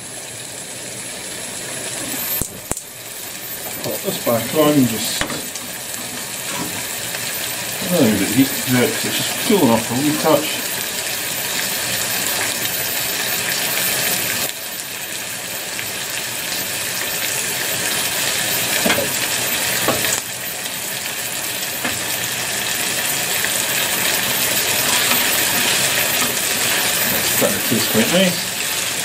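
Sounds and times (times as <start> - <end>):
sauce sizzling and bubbling: 0.0 - 29.0.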